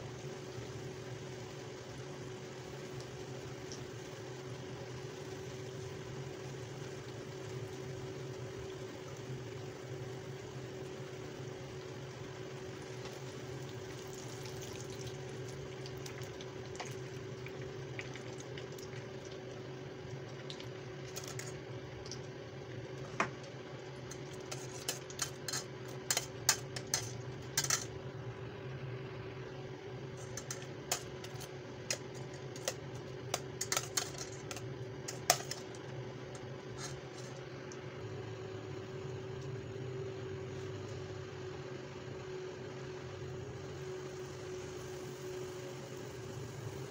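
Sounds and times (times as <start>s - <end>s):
hot oil sizzling: 0.0s - 41.2s, 43.5s - 46.9s
low steady hum: 0.0s - 46.9s.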